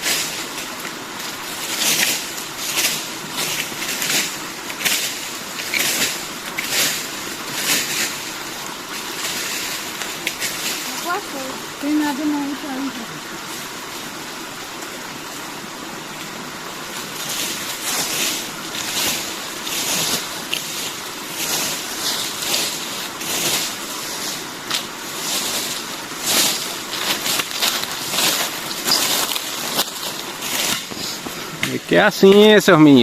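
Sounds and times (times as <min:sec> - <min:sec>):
leaves swept off ground: 0:00.0 - 0:33.0.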